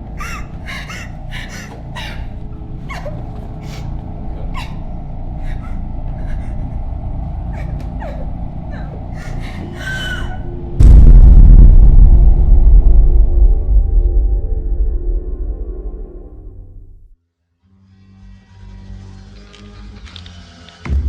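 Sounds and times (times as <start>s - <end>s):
low rumbling drone: 0.0s - 17.2s.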